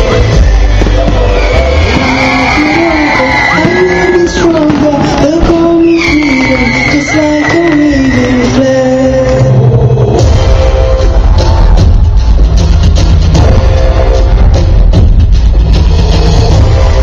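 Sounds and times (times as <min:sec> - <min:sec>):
amplified music with bass beat: 0:00.0 - 0:03.9, 0:04.6 - 0:17.0.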